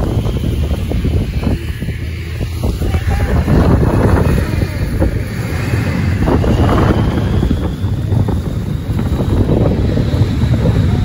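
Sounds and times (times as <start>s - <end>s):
snowmobile engine running: 0.0s - 11.0s
wind buffeting microphone: 0.0s - 11.0s.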